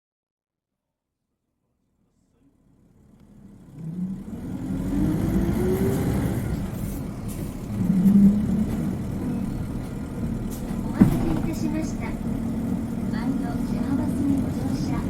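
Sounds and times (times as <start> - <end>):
bus engine accelerating: 2.3 - 15.0.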